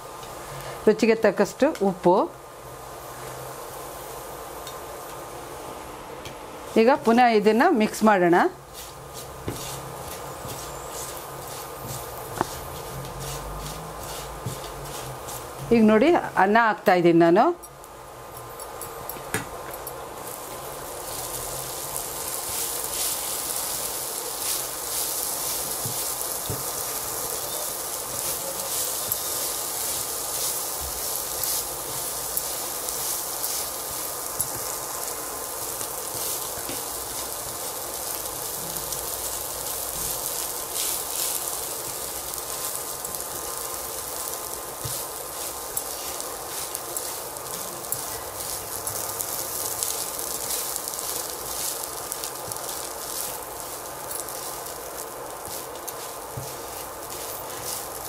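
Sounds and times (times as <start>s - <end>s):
rice sizzling in oil: 0.0s - 58.0s.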